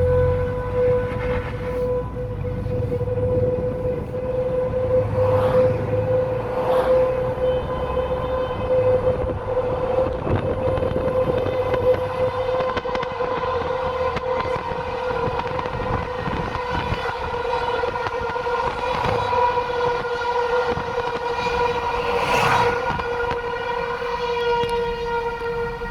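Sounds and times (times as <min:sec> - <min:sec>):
warning siren steady tone: 0:00.0 - 0:25.9.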